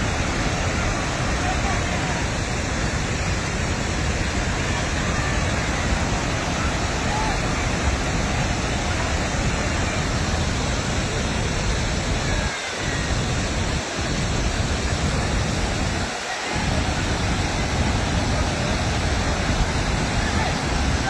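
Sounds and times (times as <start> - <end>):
floodwater roaring: 0.0 - 21.0.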